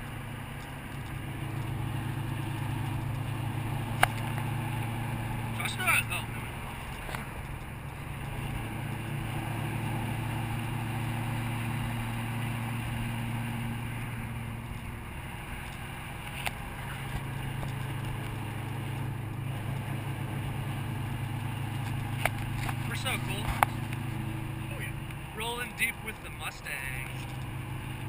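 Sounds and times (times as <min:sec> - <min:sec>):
car engine cruising drone: 0:00.0 - 0:28.0.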